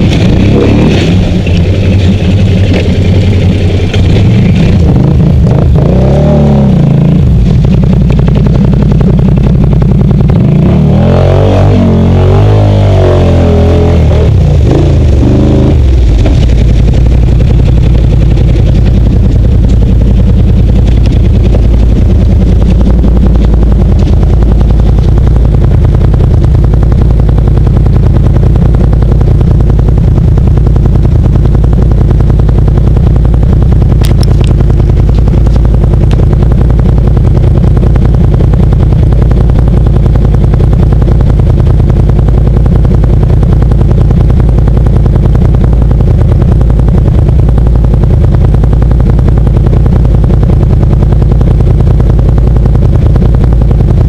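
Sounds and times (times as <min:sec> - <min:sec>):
atv engine idling: 0:00.0 - 0:10.7, 0:13.7 - 0:54.0.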